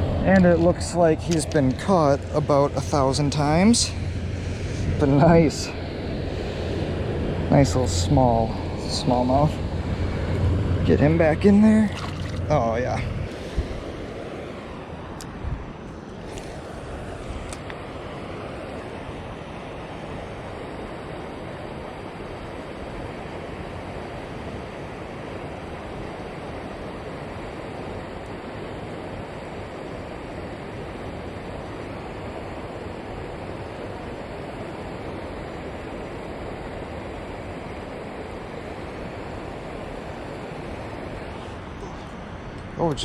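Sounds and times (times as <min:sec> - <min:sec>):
river water rushing: 0:00.0 - 0:15.2, 0:16.0 - 0:43.0.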